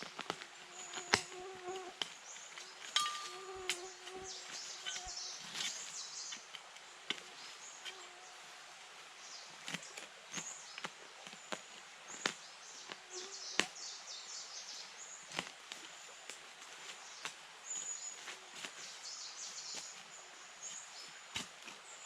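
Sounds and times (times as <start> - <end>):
small birds chirping: 0.0 - 8.4, 9.2 - 22.0.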